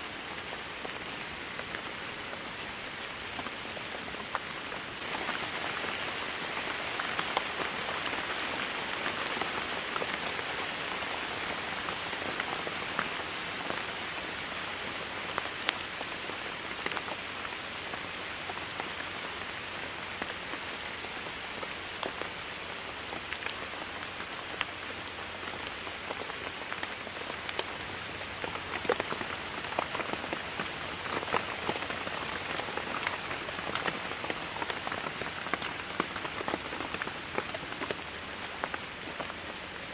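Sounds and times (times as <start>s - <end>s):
raindrops pattering on a surface: 0.0s - 39.9s
steady rainfall: 0.0s - 39.9s.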